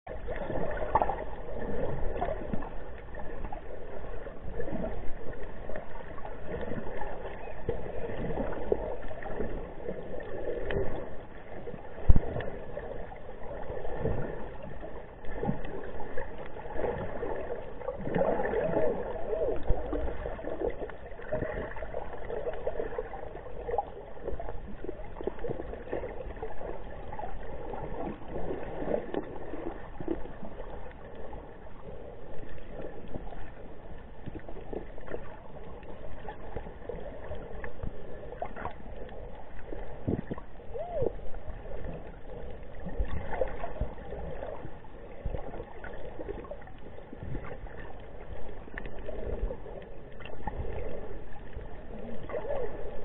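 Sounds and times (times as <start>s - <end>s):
muffled underwater water noise: 0.0s - 53.0s
bubbly gurgles: 0.1s - 53.0s.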